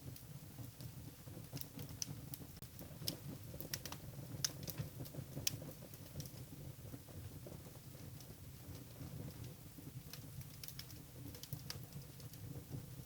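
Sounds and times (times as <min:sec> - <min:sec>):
firewood crackling and popping: 0:00.0 - 0:13.0
low rumble of flames: 0:00.0 - 0:13.0.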